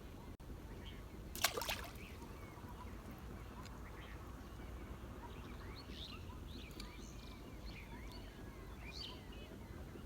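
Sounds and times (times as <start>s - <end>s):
birds chirping: 0.6s - 10.0s.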